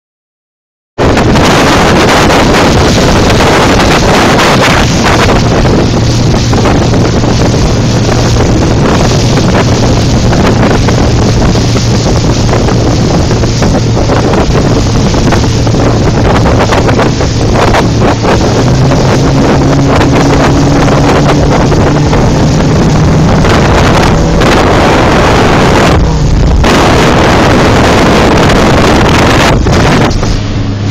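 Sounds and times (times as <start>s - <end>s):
speedboat engine running hard: 1.0s - 30.9s
wind buffeting microphone: 1.0s - 30.9s.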